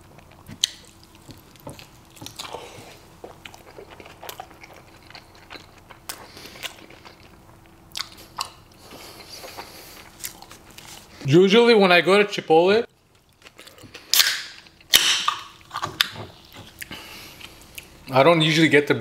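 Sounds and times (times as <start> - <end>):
person biting and chewing: 0.2 - 11.1, 13.2 - 18.0.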